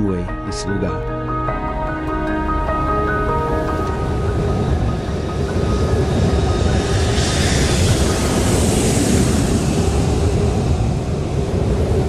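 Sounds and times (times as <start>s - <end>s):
jet plane landing: 0.3s - 12.0s.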